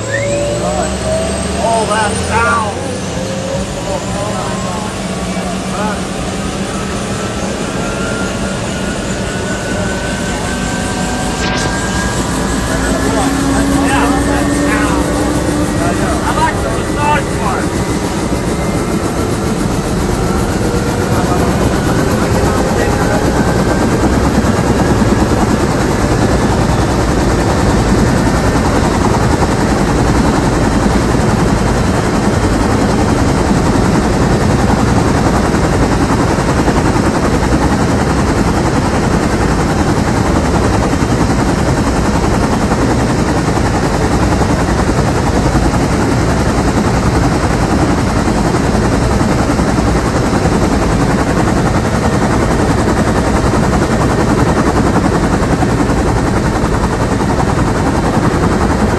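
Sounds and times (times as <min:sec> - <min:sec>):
helicopter rotor beat: 0:00.0 - 0:58.9
helicopter turbine engine: 0:00.0 - 0:58.9.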